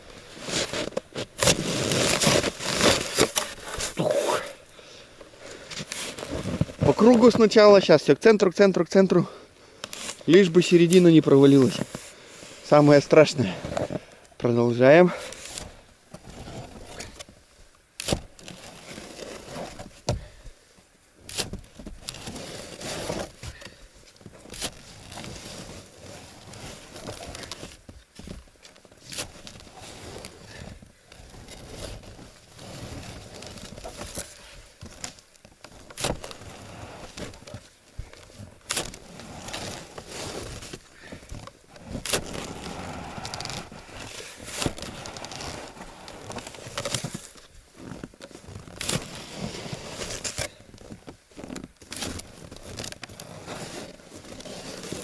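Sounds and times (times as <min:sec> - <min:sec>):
shovel crunching and scraping snow: 0:00.1 - 0:04.7, 0:05.4 - 0:07.7, 0:09.9 - 0:14.6, 0:18.0 - 0:19.9, 0:22.1 - 0:23.6, 0:24.4 - 0:27.8, 0:28.9 - 0:55.0.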